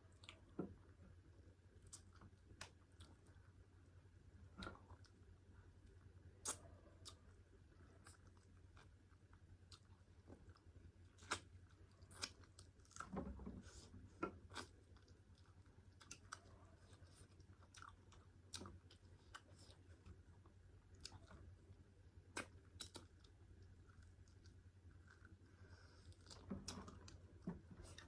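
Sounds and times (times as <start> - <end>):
close-up chewing: 4.4 - 28.0.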